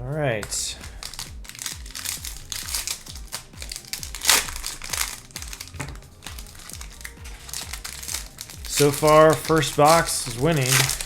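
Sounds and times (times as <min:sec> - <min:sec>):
background music with beat: 0:00.0 - 0:11.0
foil wrappers crinkling: 0:00.8 - 0:11.0.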